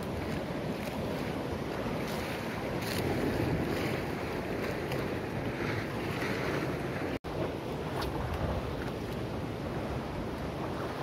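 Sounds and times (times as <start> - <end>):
surf washing against rocks: 0.0 - 11.0
wind buffeting microphone: 0.0 - 11.0.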